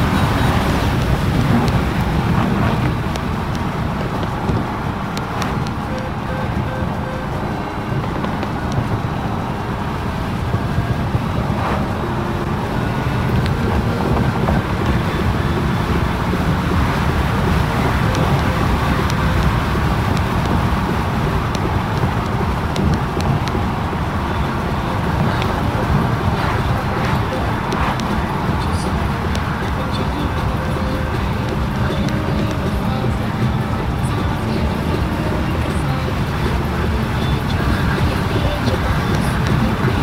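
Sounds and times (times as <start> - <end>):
car engine and road rumble: 0.0 - 40.0
wind noise: 0.0 - 40.0.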